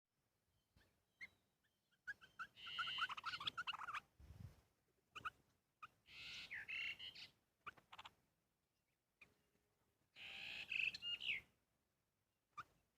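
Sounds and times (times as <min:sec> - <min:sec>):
small birds chirping: 0:00.5 - 0:11.6, 0:12.4 - 0:12.9.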